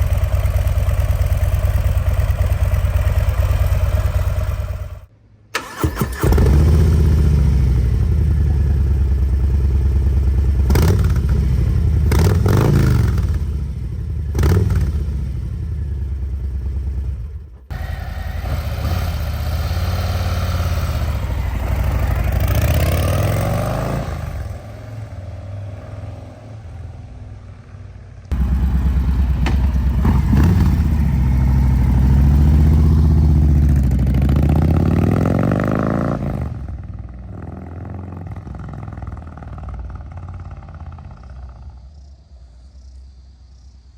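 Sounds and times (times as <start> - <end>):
motorcycle engine revving: 0.0 - 42.1.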